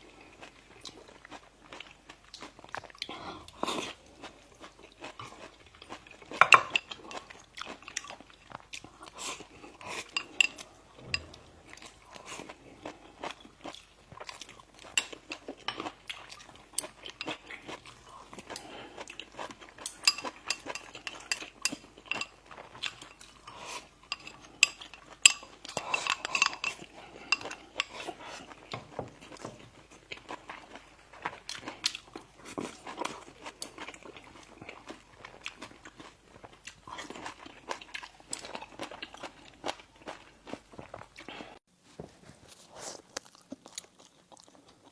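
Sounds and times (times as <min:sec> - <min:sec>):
chewing bread and pastries: 0:00.0 - 0:44.9.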